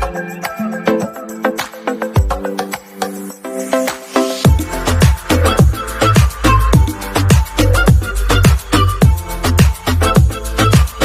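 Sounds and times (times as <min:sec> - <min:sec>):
percussive rhythmic music: 0:00.0 - 0:11.0.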